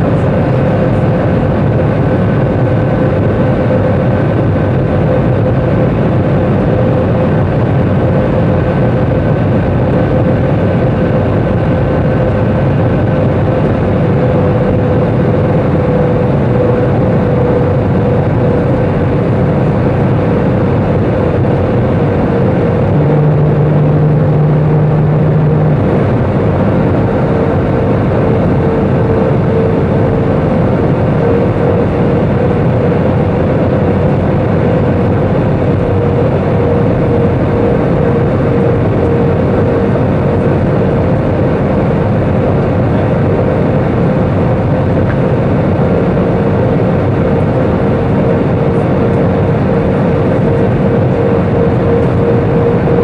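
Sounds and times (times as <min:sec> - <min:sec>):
jet engines and airflow: 0:00.0 - 0:53.0
lower hum: 0:00.0 - 0:53.0
steady hum: 0:00.0 - 0:53.0.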